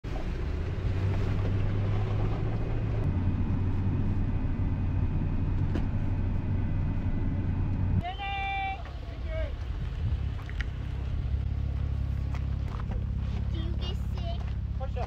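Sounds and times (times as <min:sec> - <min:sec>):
low engine hum: 0:00.0 - 0:15.0
tyres rumbling on gravel road: 0:00.0 - 0:15.0.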